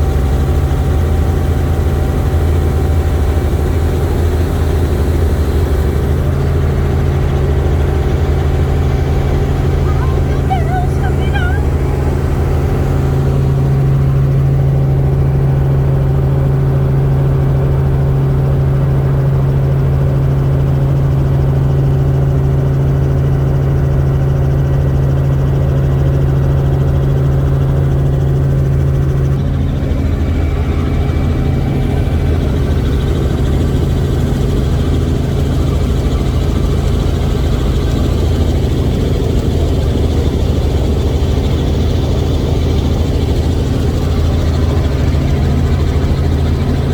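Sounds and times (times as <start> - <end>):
helicopter turbine and rotor drone: 0.0 - 46.9.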